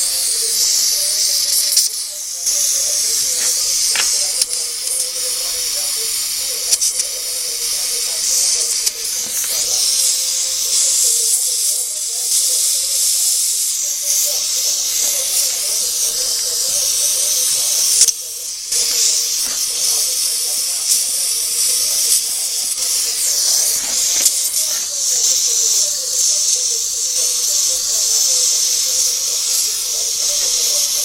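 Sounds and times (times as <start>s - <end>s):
faint voices: 0.0s - 31.0s
loud high-pitched hiss: 0.0s - 31.0s.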